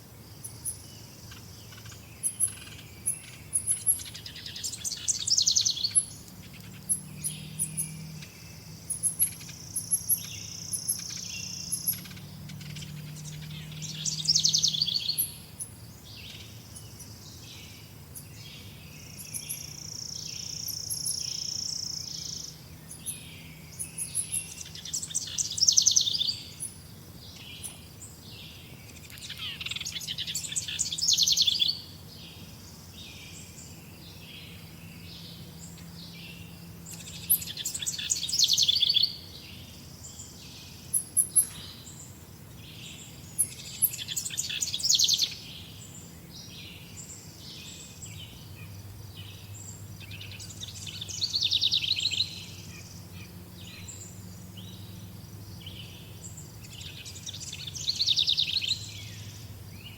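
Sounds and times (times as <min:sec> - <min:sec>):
bird singing loud song phrase: 0:00.0 - 0:59.9
soft bird chirps: 0:00.4 - 0:59.9.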